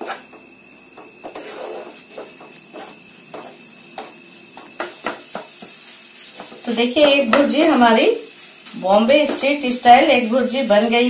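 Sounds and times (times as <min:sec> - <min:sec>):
spatula scraping frying pan: 0:00.0 - 0:00.4, 0:01.1 - 0:11.0.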